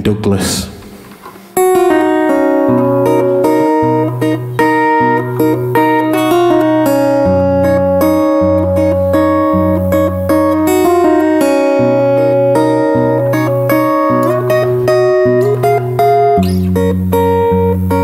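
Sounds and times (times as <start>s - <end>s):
acoustic guitar chords: 0.8s - 18.0s.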